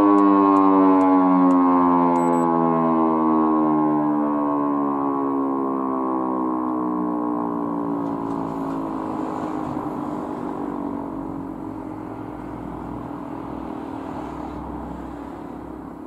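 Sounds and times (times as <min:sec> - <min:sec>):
siren winding down: 0:00.0 - 0:15.8.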